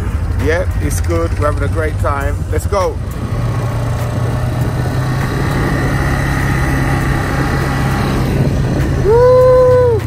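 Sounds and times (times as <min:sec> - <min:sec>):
quad bike engine droning: 0:00.0 - 0:10.0.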